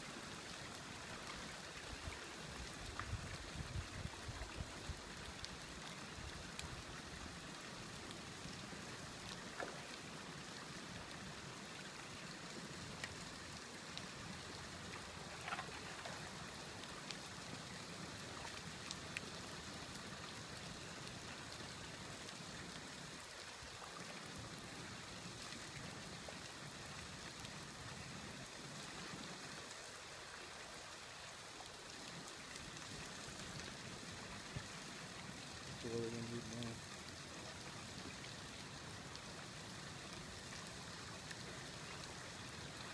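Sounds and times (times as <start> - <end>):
rushing creek water: 0.0 - 42.9.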